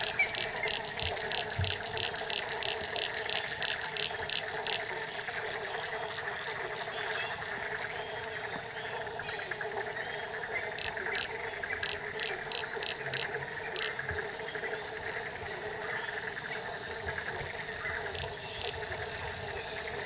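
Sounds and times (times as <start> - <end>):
chorus of frogs calling: 0.0 - 20.0.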